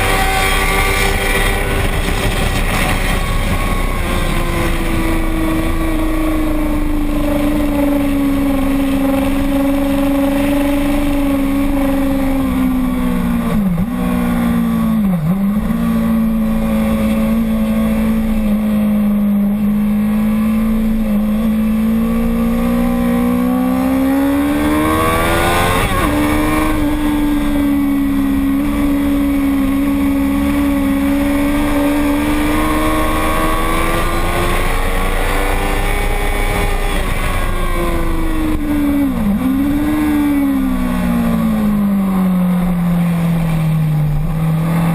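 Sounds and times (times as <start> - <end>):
racing motorcycle engine: 0.0 - 44.9.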